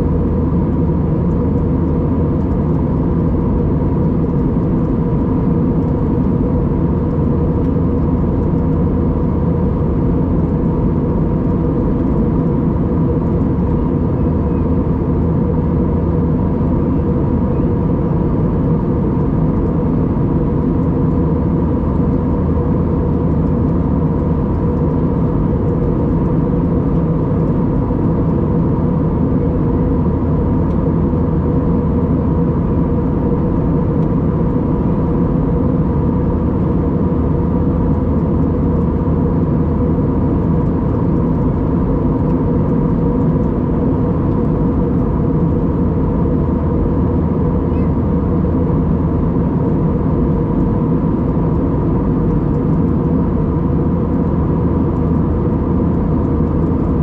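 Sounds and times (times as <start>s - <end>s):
airplane cabin drone: 0.0s - 57.0s
thin steady whine: 0.0s - 57.0s.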